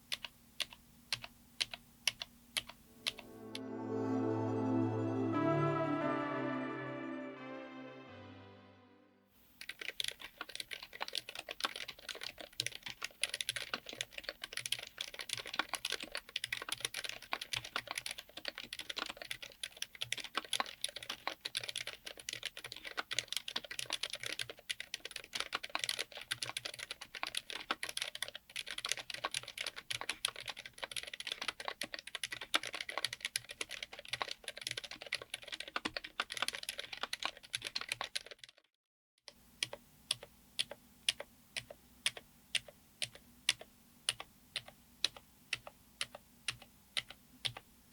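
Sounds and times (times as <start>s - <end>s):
fast typing on mechanical keyboard: 0.0s - 3.2s, 9.6s - 38.7s, 39.6s - 47.6s.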